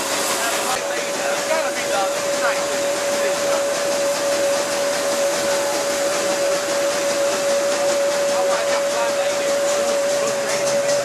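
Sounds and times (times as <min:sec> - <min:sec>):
generator high whine: 0:00.0 - 0:11.0
hiss of steam and machinery: 0:00.0 - 0:11.0.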